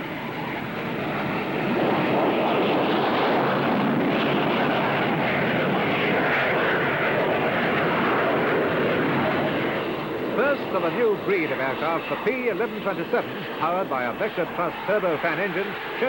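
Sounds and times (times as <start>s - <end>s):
loud aircraft engine: 0.0s - 16.0s.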